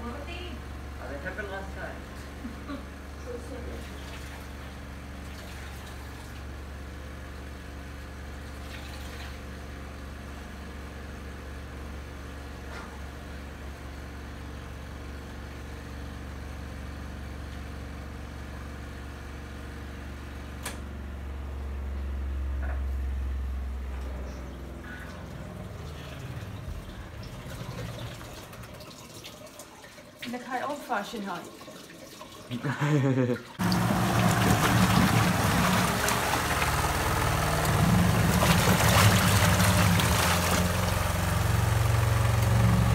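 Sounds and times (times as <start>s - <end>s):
washing machine motor humming: 0.0s - 42.9s.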